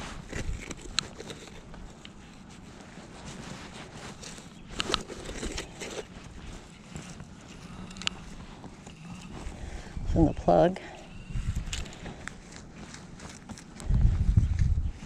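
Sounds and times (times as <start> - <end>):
rustling and scraping through soil: 0.0 - 15.0.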